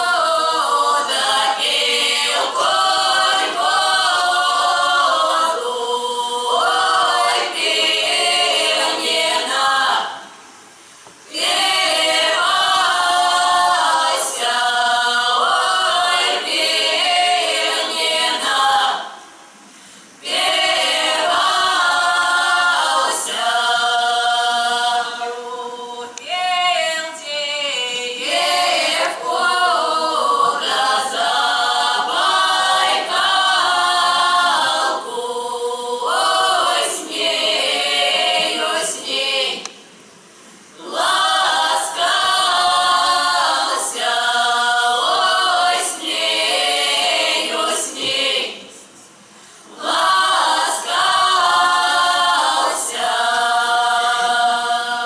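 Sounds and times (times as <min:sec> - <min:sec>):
women singing a cappella: 0:00.0 - 0:55.0.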